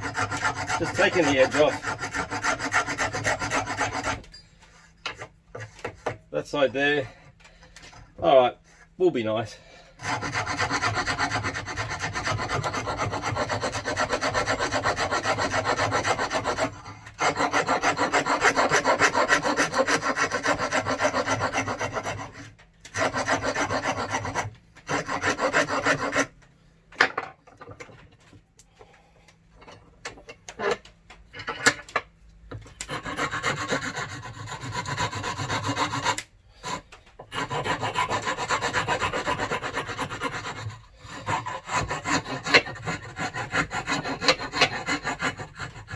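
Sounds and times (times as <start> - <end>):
file rasping plywood: 0.0 - 9.0, 9.9 - 26.4, 32.5 - 45.9.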